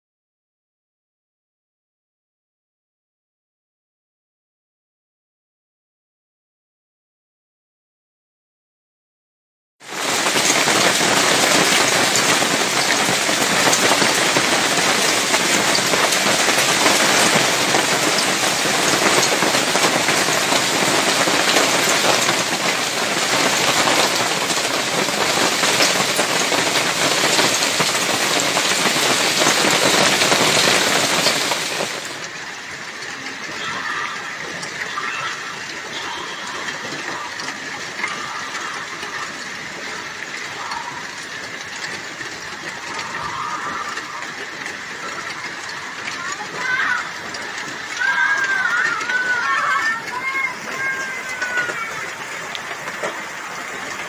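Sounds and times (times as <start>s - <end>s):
heavy hail falling: 9.8s - 54.0s.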